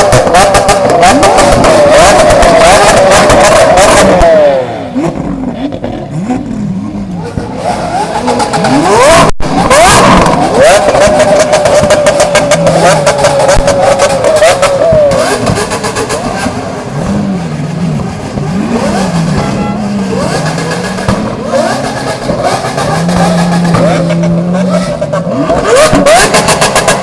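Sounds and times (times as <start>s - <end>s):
supercar engines revving: 0.0s - 27.0s.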